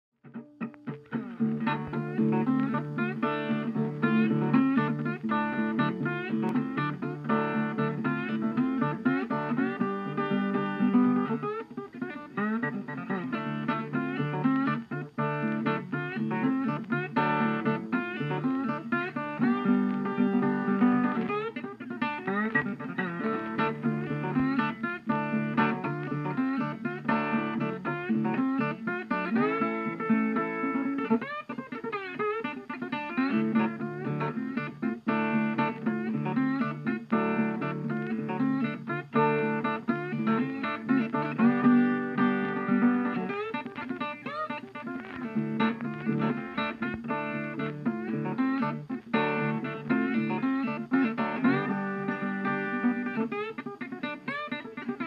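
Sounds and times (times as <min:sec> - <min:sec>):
acoustic guitar plucked melody: 0:00.2 - 0:55.0.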